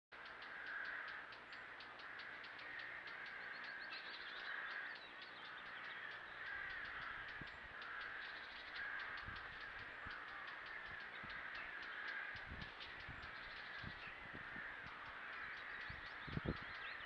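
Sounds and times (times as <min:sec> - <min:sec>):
crows cawing: 0:00.2 - 0:17.0.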